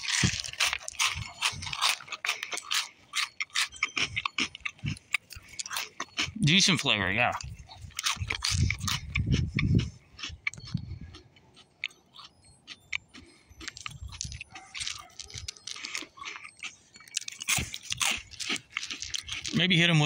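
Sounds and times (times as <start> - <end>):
person chewing crunchy cereal: 0.0 - 20.0.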